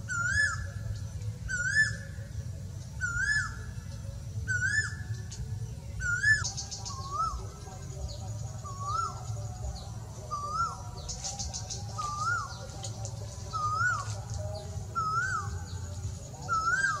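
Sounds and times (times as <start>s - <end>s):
distant bird whistles: 0.0s - 2.3s, 2.9s - 7.6s, 8.6s - 12.6s, 13.5s - 17.0s.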